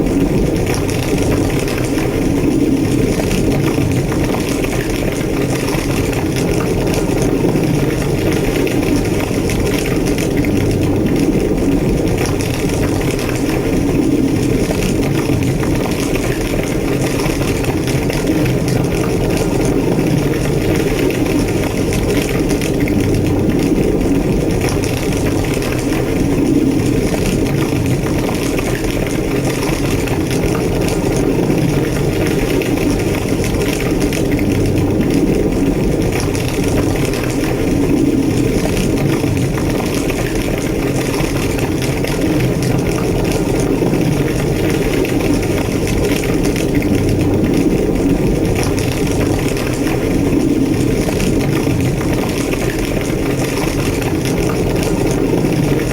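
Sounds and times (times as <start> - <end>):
fire crackling: 0.0 - 55.9
fire roaring: 0.0 - 55.9.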